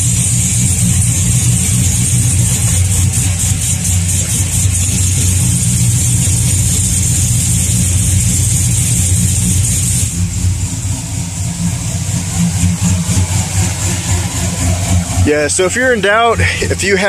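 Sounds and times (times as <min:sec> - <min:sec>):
low exhaust rumble: 0:00.0 - 0:17.0.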